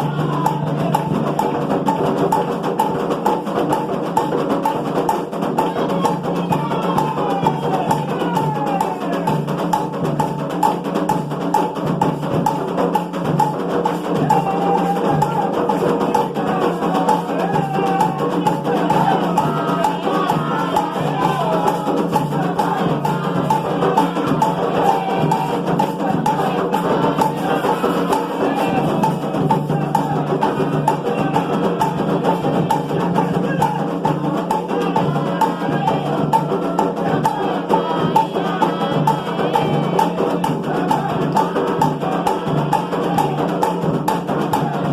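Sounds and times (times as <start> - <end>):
music with percussion: 0.0 - 44.9.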